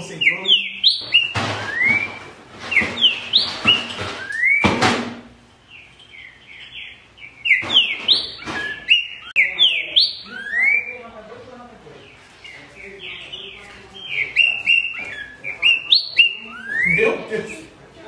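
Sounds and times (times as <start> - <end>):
bird singing whistled phrases: 0.0 - 4.7, 5.8 - 11.0, 12.4 - 17.2.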